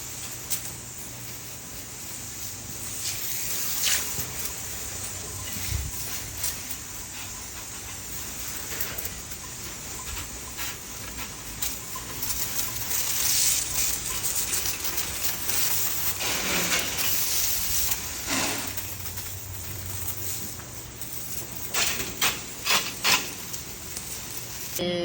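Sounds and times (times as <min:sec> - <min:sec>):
hose spraying water: 0:00.0 - 0:24.8.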